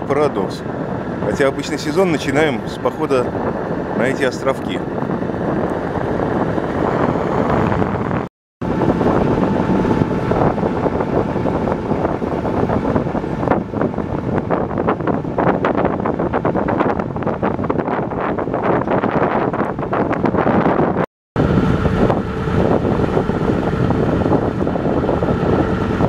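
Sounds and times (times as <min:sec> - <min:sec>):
boat motor running: 0:00.0 - 0:26.0
water rushing past boat: 0:00.0 - 0:26.0
wind buffeting microphone: 0:00.0 - 0:26.0.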